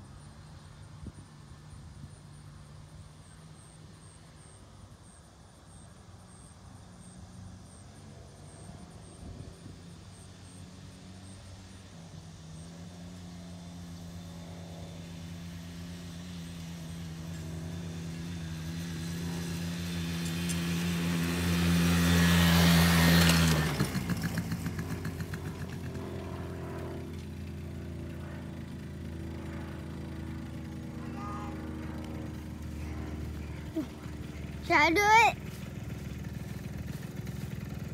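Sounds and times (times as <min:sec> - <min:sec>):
small atv engine running: 0:00.0 - 0:37.9.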